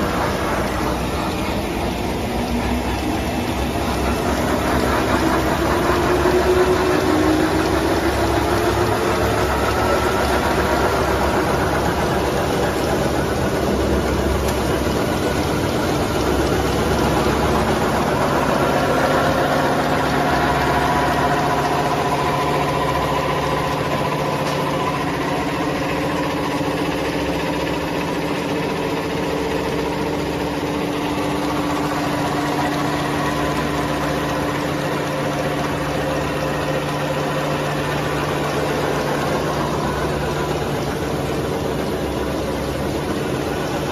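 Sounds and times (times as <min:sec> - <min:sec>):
printing machine humming: 0:00.0 - 0:43.9.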